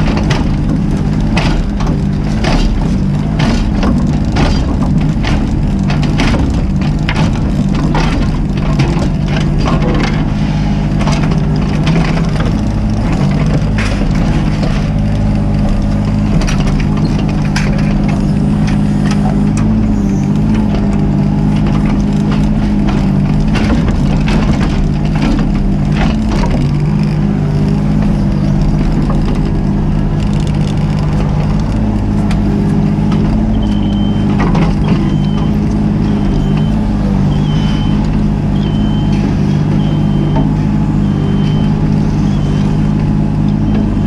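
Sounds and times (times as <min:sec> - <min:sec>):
excavator diesel engine running: 0:00.0 - 0:44.0
metal knocks and clanks: 0:00.0 - 0:44.0.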